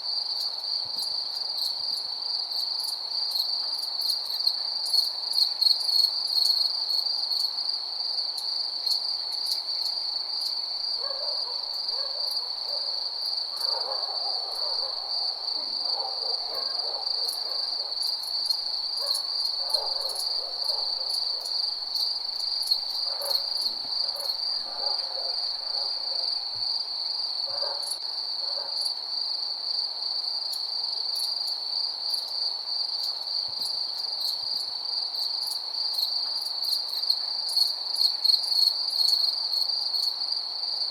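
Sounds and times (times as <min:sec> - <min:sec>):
crickets trilling: 0:00.1 - 0:40.5.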